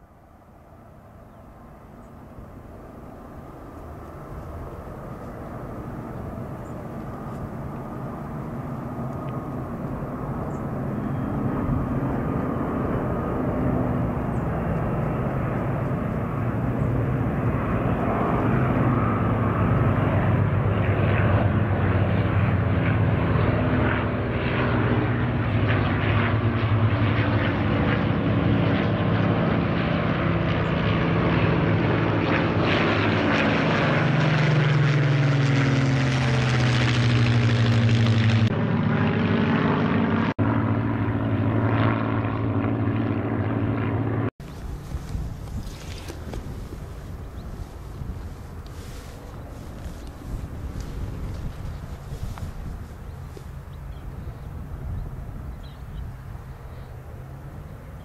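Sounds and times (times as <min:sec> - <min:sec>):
propeller plane passing close: 0:00.0 - 0:58.0
propeller planes droning overhead: 0:00.0 - 0:58.0.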